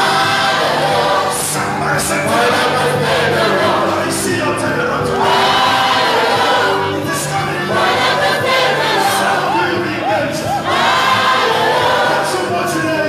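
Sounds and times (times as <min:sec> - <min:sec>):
congregation singing: 0:00.0 - 0:13.0.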